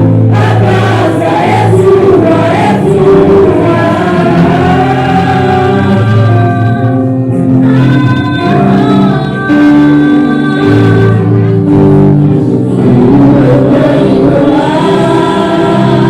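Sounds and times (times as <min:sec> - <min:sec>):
worship singing with instruments: 0:00.0 - 0:16.0.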